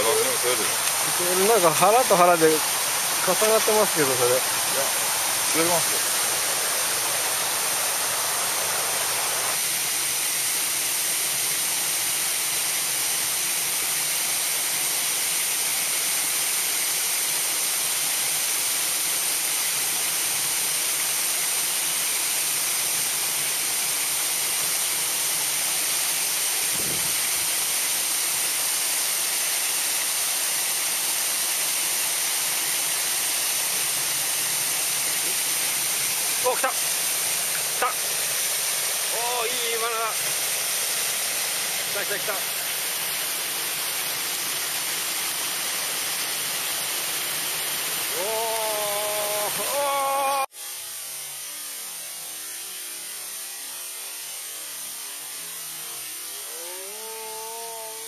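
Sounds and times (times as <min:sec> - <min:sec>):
water rushing over a weir: 0:00.0 - 0:50.5, 0:55.0 - 0:58.0.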